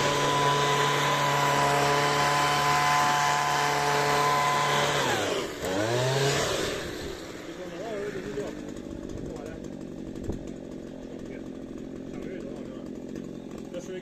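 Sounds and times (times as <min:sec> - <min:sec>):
leaf blower running: 0:00.0 - 0:14.0.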